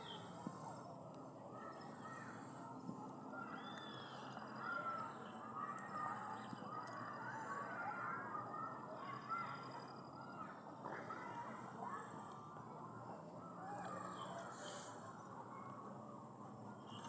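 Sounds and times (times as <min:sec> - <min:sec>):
chorus of animal calls: 0:01.5 - 0:17.0.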